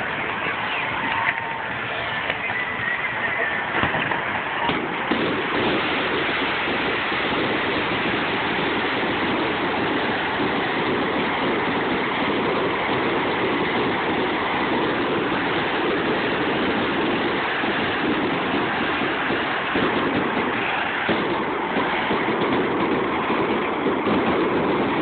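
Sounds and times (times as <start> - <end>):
aerial fireworks crackling: 0.0 - 25.0.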